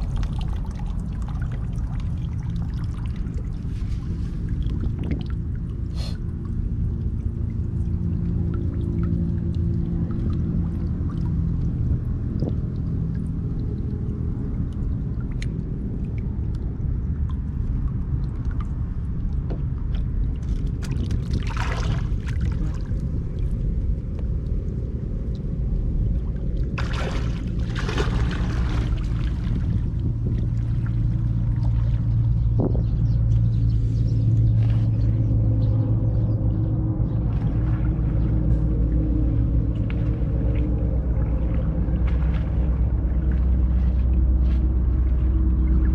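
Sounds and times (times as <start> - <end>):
rushing or splashing noises: 0.0 - 32.6, 37.2 - 45.9.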